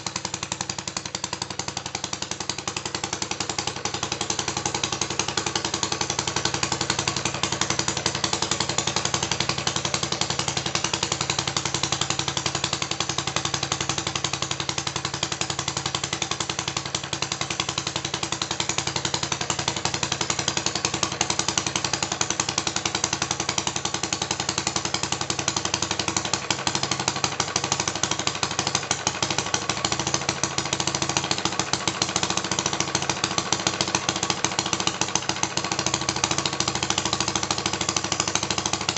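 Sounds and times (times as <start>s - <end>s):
small petrol engine running: 0.0s - 38.9s.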